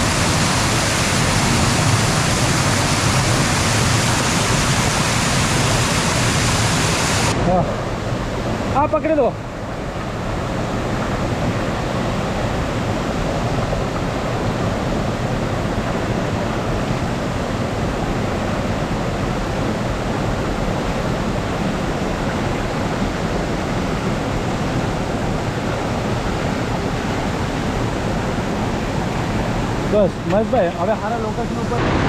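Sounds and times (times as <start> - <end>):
roar of rushing water: 0.0 - 32.0.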